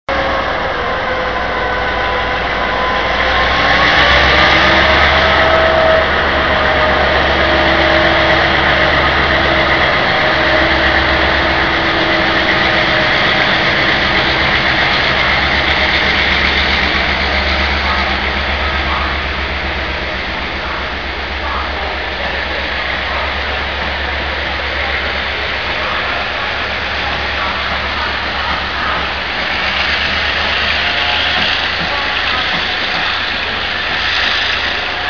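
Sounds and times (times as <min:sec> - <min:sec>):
locomotive engine: 0:00.1 - 0:35.0
train cars rolling past: 0:00.1 - 0:35.0.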